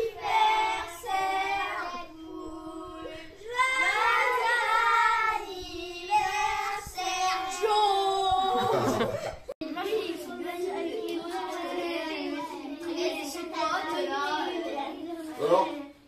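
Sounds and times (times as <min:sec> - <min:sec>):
children singing: 0:00.0 - 0:16.0.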